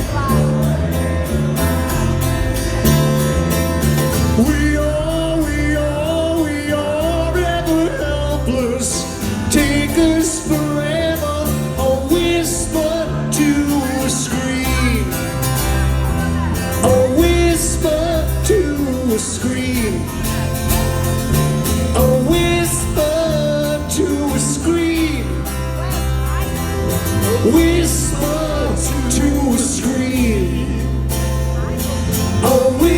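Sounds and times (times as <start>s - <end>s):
live rock band with singing: 0.0s - 32.9s.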